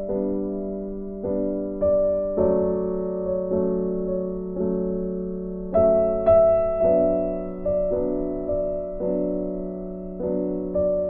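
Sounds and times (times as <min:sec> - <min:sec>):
soft keyboard chords: 0:00.0 - 0:11.0.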